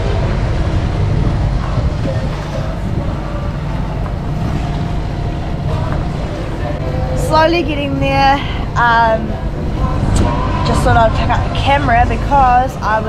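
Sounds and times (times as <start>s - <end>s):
boat engine rumbling: 0.0s - 13.0s
water noise: 0.0s - 13.0s
wind: 0.0s - 13.0s.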